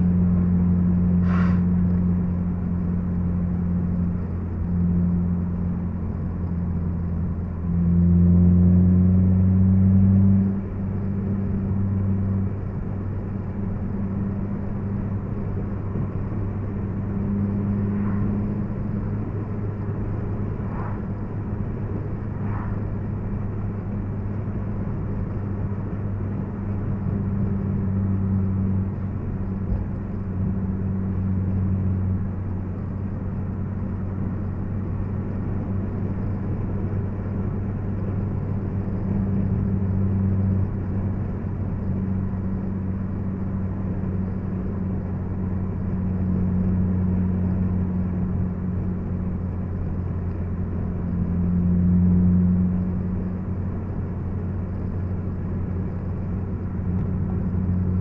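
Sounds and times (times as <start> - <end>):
car engine cruising: 0.0 - 58.0
road and tyre noise: 0.0 - 58.0.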